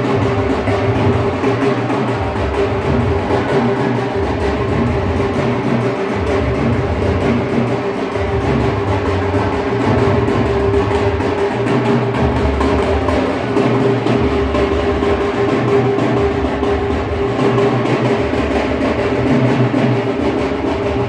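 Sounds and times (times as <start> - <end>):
fast drum beat: 0.0 - 21.0.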